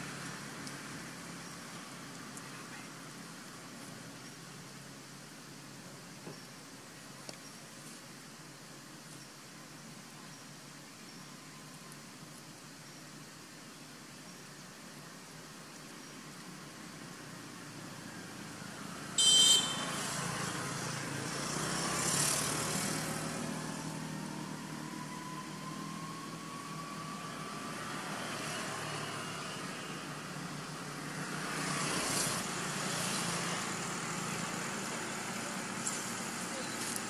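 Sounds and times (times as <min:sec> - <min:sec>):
vehicles passing on road: 0:00.0 - 0:12.5, 0:13.1 - 0:37.0.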